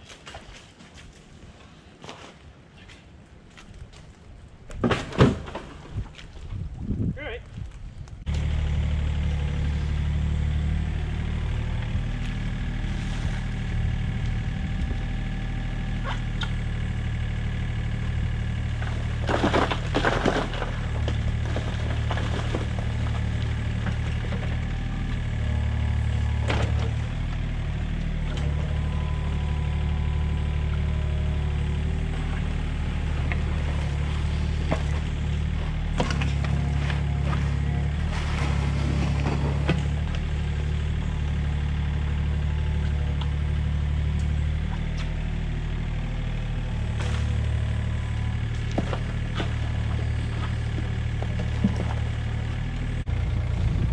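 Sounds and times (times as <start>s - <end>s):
excavator diesel engine running: 8.2s - 53.9s.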